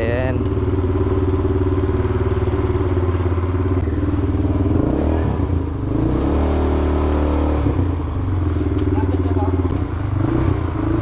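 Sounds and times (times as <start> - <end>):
atv engine running at low revs: 0.0 - 11.0.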